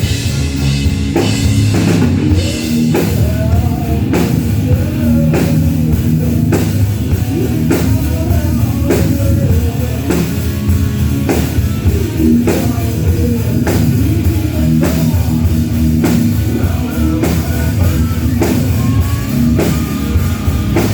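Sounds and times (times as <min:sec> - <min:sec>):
electric guitar: 0:00.0 - 0:20.9
heavy drum hits: 0:00.0 - 0:20.9
rock band playing live: 0:00.0 - 0:20.9.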